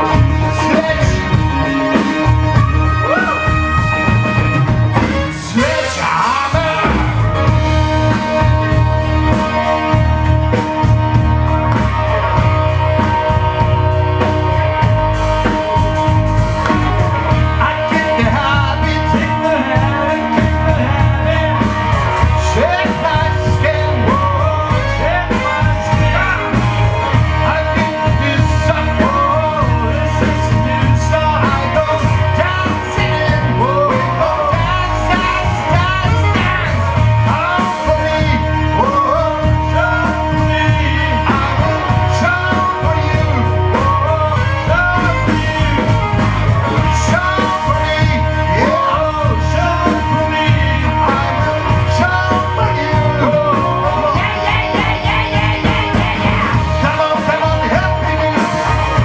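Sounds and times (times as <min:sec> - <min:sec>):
bass and drum groove: 0:00.0 - 0:59.0
electric guitar bending notes: 0:00.0 - 0:59.0
person singing: 0:00.0 - 0:59.0.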